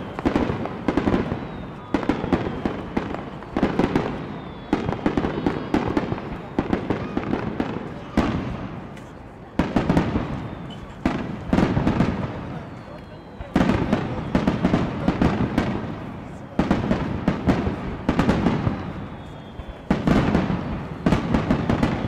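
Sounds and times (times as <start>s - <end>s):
firework crackle: 0.0s - 22.0s.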